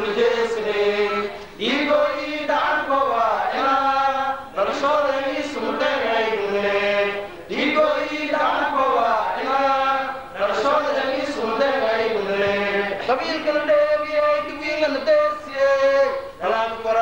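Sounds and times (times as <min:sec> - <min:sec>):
men chanting into microphone: 0:00.0 - 0:17.0.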